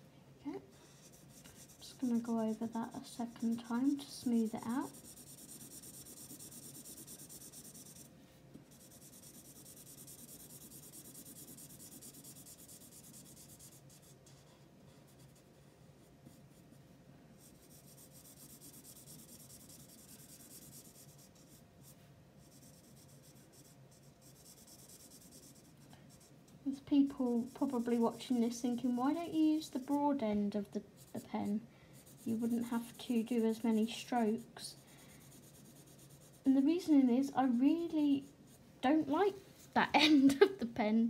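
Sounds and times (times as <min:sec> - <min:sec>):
marker scratching on paper: 0:00.8 - 0:15.4, 0:17.4 - 0:26.3, 0:26.9 - 0:30.3, 0:31.0 - 0:39.7.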